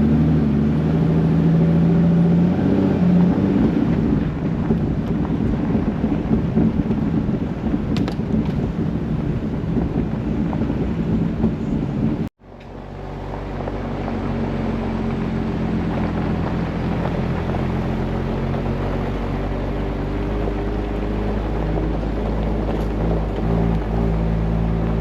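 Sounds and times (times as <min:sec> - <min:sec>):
car engine droning: 0:00.0 - 0:25.0
road and wind noise: 0:00.0 - 0:25.0.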